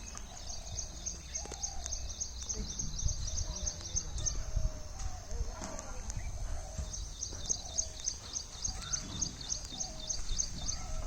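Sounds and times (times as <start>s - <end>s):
small bird chirping: 0.0s - 11.0s
wind rumble on microphone: 0.0s - 11.0s.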